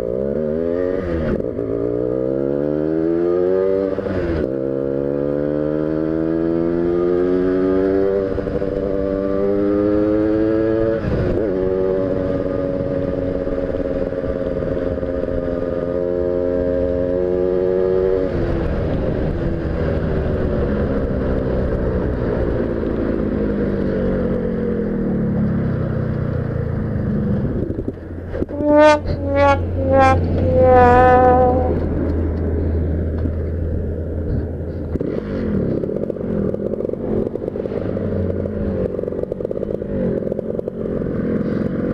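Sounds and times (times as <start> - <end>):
motorcycle engine accelerating: 0.0 - 41.9
motorcycle throttle revs: 0.0 - 41.9.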